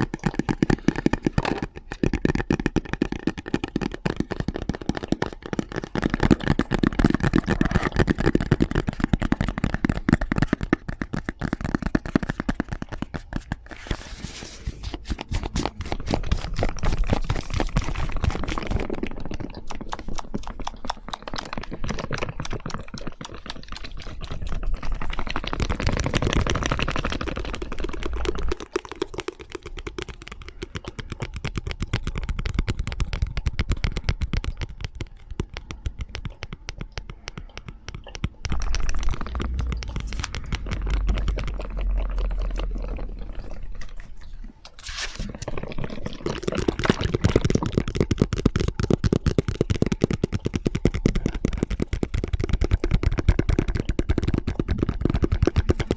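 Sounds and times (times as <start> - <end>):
fast continuous tapping: 0.0 - 14.1, 15.0 - 44.2, 45.4 - 55.9.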